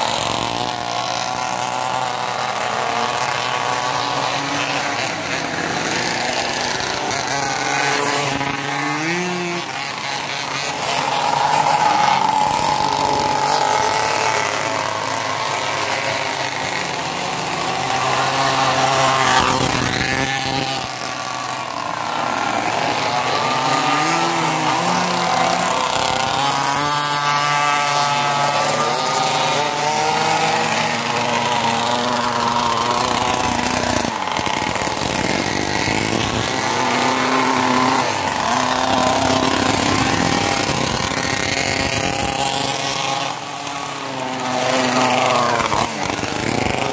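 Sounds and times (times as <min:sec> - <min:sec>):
pocket bike engines buzzing: 0:00.0 - 0:46.9.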